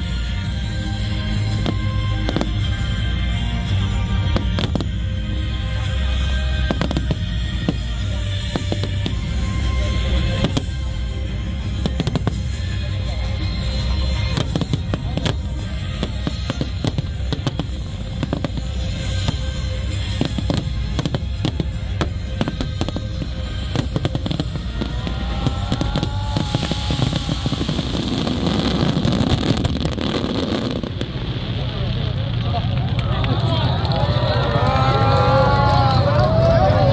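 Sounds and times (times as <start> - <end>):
fireworks crackling: 0.0 - 36.9
fireworks bangs: 1.4 - 33.8.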